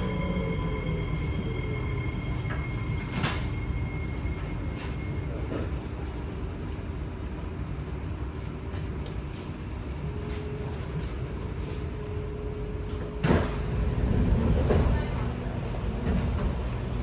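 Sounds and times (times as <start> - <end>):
train equipment rumble and hum: 0.0 - 17.0.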